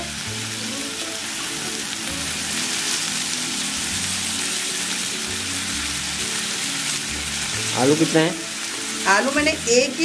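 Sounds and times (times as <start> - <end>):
soft background music: 0.0 - 10.0
vegetables sizzling in hot oil: 0.0 - 10.0.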